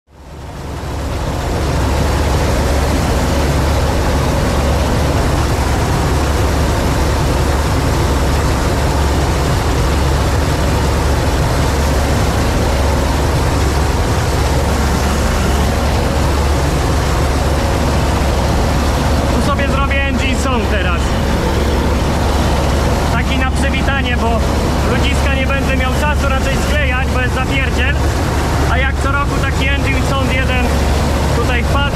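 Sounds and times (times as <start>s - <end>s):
combine harvester engine drone: 0.1s - 31.9s
threshing machinery noise: 0.1s - 31.9s.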